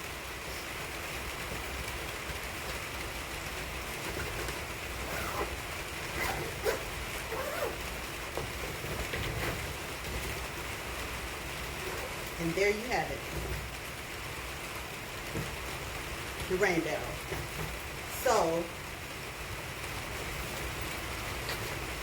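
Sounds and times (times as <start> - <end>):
steady rain hissing: 0.0 - 22.0.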